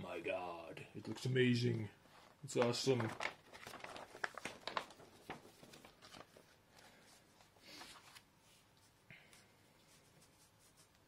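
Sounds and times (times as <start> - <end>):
paper rustling: 1.0 - 11.0.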